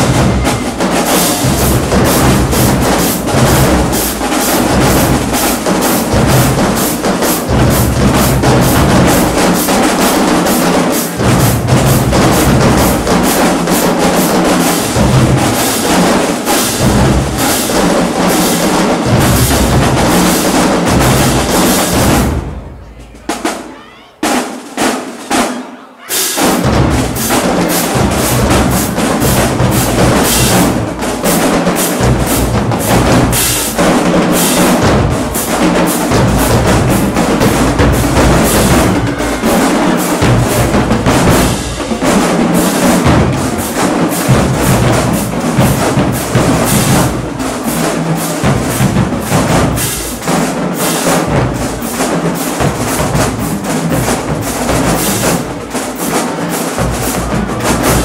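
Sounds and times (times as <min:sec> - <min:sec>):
marching drumline with cymbals: 0:00.0 - 0:58.0.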